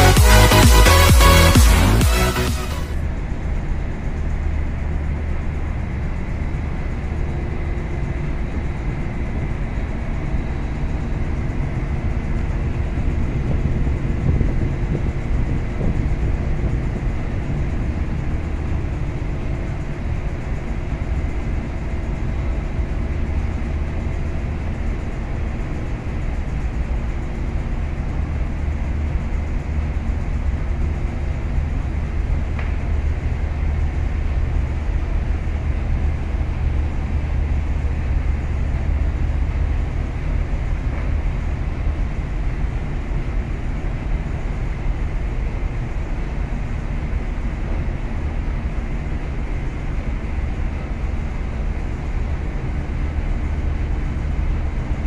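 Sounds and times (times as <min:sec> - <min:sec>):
low drone of engine machinery: 0:00.0 - 0:55.0.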